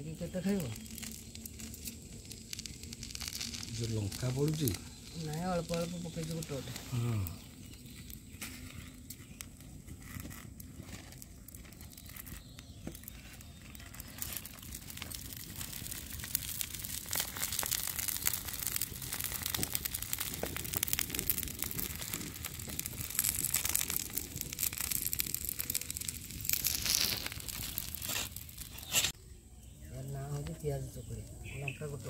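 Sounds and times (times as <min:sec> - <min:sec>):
batter sizzling on hot griddle: 0:00.0 - 0:29.2.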